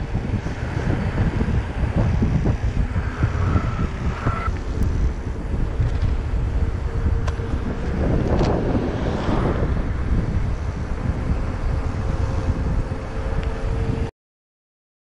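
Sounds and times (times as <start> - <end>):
car passing: 0.0 - 14.1
wind buffeting microphone: 0.0 - 14.1.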